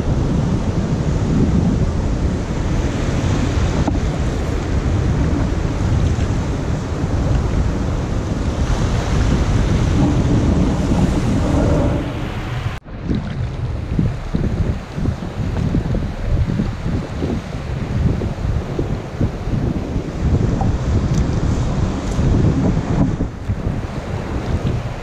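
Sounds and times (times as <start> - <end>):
sea waves washing: 0.0 - 25.0
wind buffeting microphone: 0.0 - 25.0.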